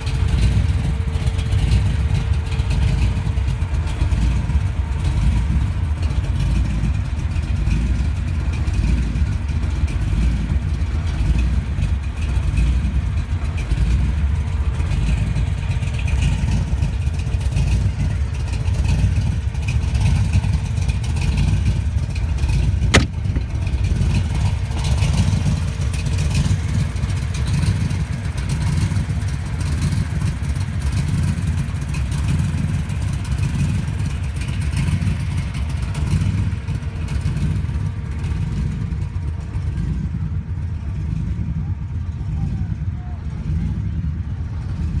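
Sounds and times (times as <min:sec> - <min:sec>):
car engine low rumble: 0:00.0 - 0:45.0.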